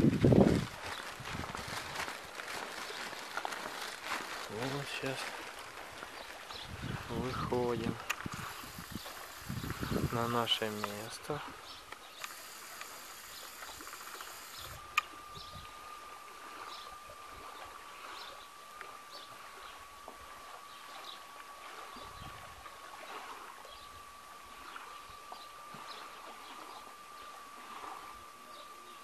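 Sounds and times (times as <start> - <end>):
faint high-pitched whine: 1.7 - 29.0.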